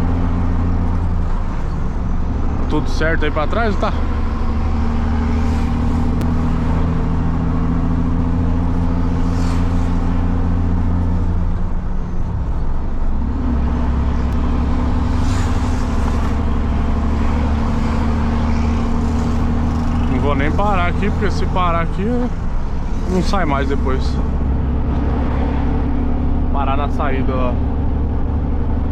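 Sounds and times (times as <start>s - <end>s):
diesel truck engine running: 0.0s - 28.9s.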